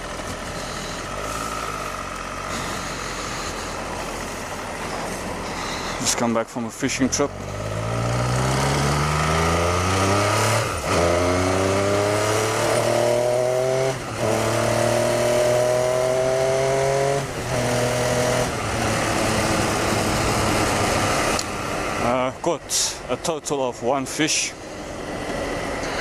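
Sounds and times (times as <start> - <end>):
motorcycle engine accelerating: 0.0 - 22.3.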